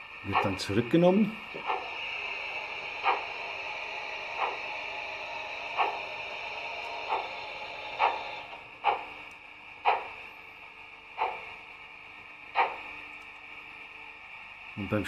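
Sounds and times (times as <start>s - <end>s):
steady steam hiss: 0.0s - 15.0s
steam exhaust chuffs: 0.0s - 15.0s.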